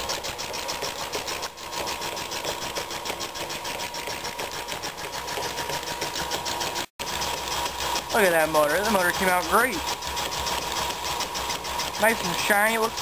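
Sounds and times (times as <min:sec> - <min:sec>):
air compressor clattering: 0:00.0 - 0:13.0
steady motor tone: 0:00.0 - 0:13.0.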